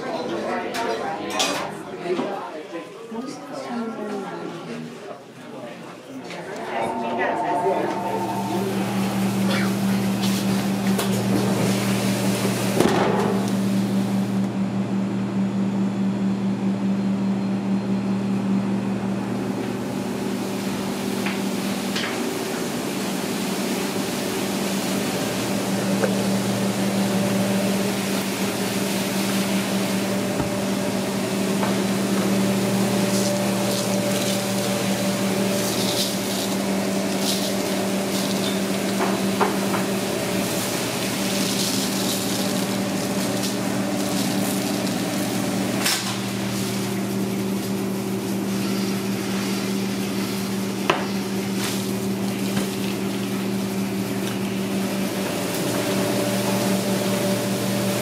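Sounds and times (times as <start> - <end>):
kitchen machinery hum: 6.1 - 58.0.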